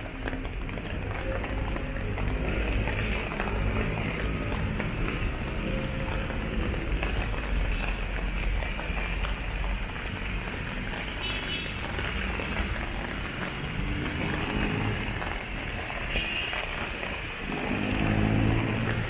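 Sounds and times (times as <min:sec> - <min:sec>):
road traffic rumble: 0:00.0 - 0:19.0
steady rain falling: 0:00.0 - 0:19.0.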